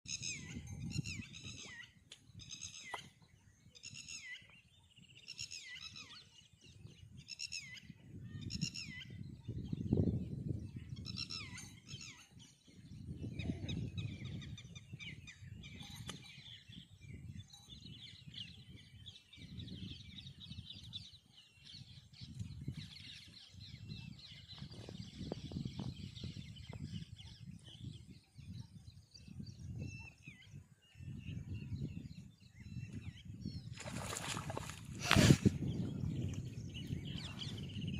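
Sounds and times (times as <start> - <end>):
birds chirping: 0.1 - 37.9.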